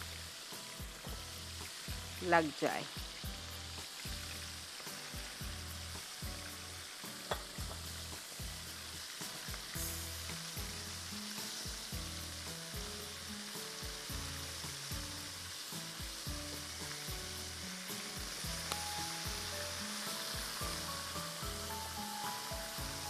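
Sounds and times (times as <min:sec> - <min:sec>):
chicken wings deep-frying in oil: 0:00.0 - 0:23.0.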